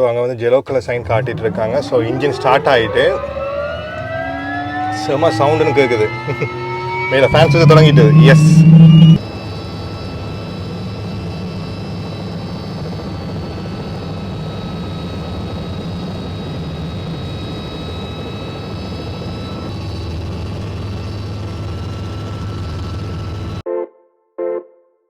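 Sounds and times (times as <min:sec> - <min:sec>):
high turbine whine: 0:00.7 - 0:23.6
helicopter engine and rotor: 0:01.0 - 0:23.6.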